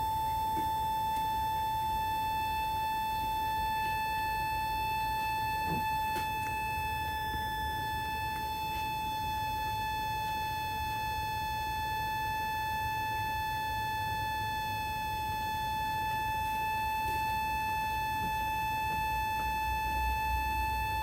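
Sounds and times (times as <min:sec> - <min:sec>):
miniature siren steady high tone: 0:00.0 - 0:21.0.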